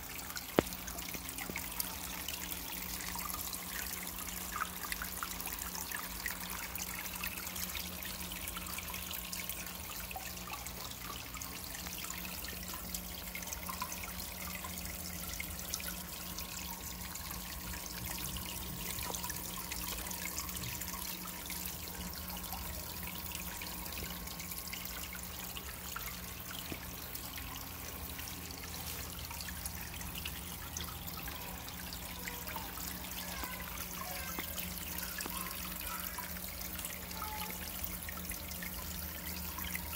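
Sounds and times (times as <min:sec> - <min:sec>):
water trickling down a wall: 0:00.0 - 0:39.9.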